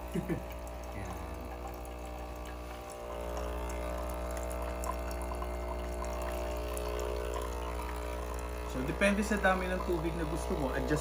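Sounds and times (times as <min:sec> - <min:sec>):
coffee machine pump humming: 0:00.0 - 0:11.0
water pouring into a mug: 0:00.0 - 0:11.0.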